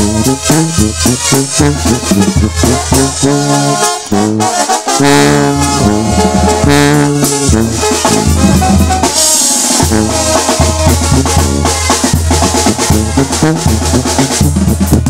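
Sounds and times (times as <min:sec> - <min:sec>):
bass line and drums: 0:00.0 - 0:15.0
brass band playing: 0:00.0 - 0:15.0.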